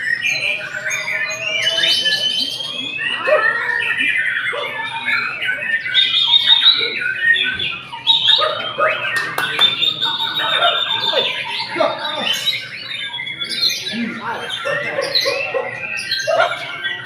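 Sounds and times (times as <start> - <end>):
songbirds whistling and trilling: 0.0 - 17.0.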